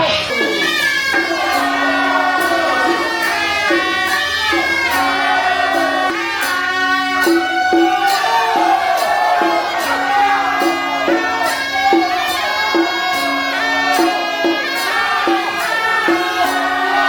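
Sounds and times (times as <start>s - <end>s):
percussion strikes: 0.0s - 17.0s
sliding wind instrument melody: 0.0s - 17.0s.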